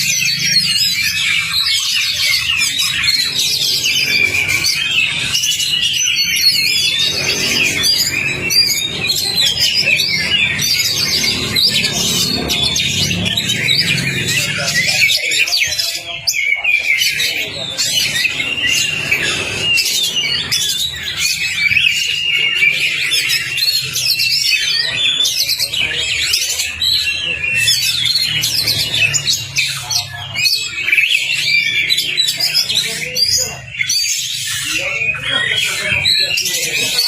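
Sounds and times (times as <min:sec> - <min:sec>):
bird singing: 0:00.0 - 0:37.0.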